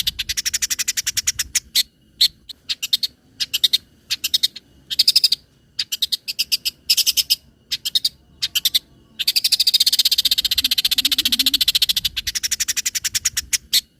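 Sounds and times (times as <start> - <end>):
bird singing rattling trills: 0.0 - 13.9.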